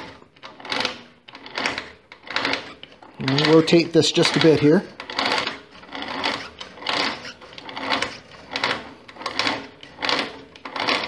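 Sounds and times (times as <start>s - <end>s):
roller chain metallic rattles: 0.0s - 11.0s.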